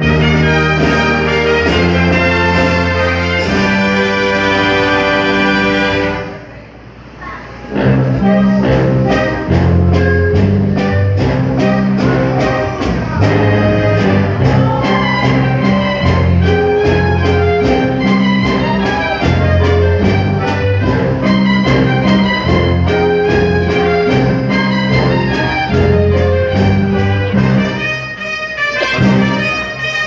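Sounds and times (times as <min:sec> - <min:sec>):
band music with brass: 0:00.0 - 0:06.5, 0:07.7 - 0:30.0.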